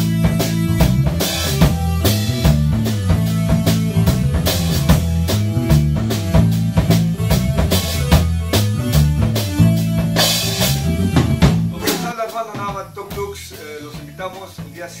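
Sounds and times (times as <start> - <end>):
rock music with drums and bass: 0.0 - 15.0.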